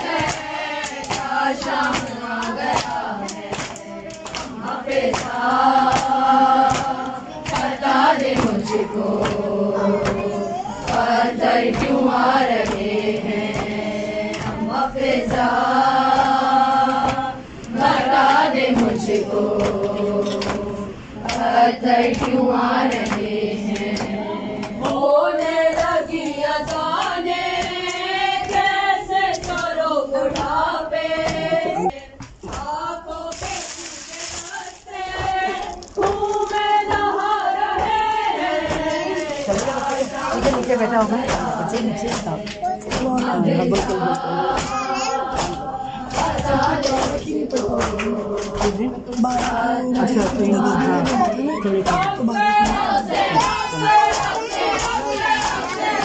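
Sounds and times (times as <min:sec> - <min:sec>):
women chanting a lament: 0:00.0 - 0:56.0.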